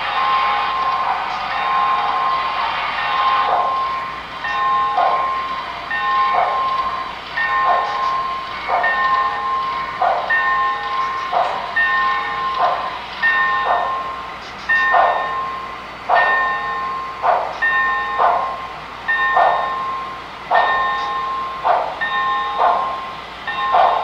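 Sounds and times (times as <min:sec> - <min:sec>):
steam engine bell ringing: 0:00.0 - 0:24.0
steam locomotive exhaust chuffs: 0:00.0 - 0:24.0.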